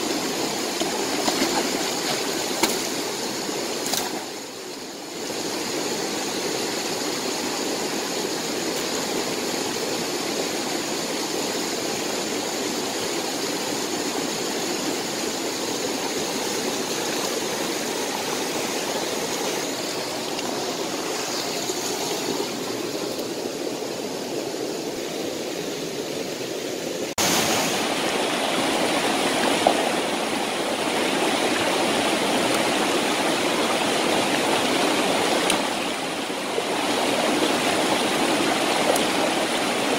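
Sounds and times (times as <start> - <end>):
river water rushing: 0.0 - 39.9
stream flowing over rocks: 0.0 - 39.9.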